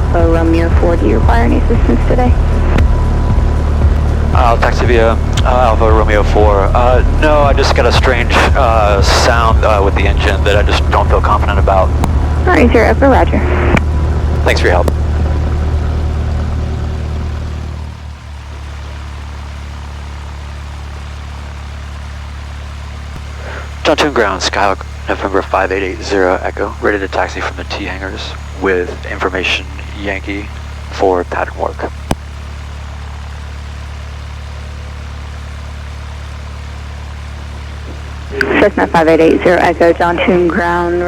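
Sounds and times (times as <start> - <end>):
propeller engine drone: 0.0 - 41.0.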